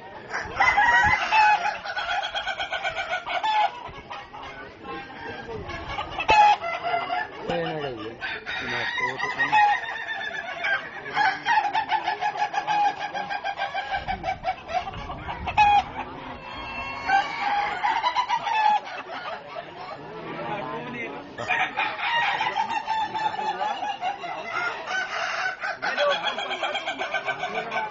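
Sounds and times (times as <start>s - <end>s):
roosters crowing: 0.0s - 20.1s, 21.3s - 27.9s.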